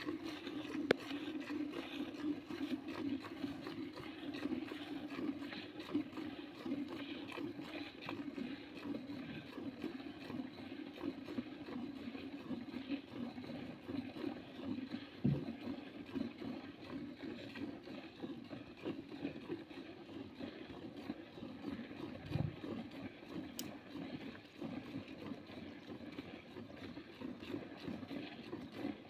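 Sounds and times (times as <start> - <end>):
milk squirting into a bucket: 0.0 - 29.0.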